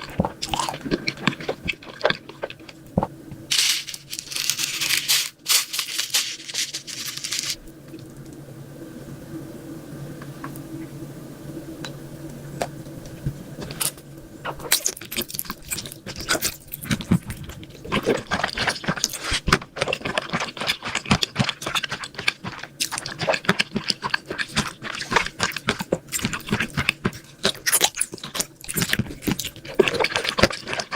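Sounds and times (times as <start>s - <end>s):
person chewing crunchy food: 0.0s - 7.6s, 13.6s - 30.9s.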